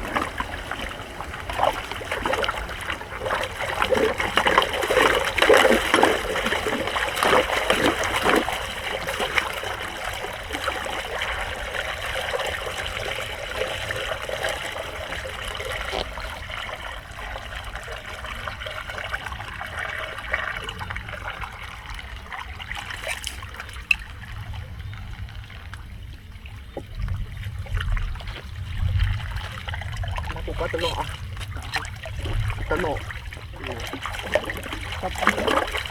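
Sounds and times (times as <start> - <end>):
water trickling into a drain: 0.0 - 35.9.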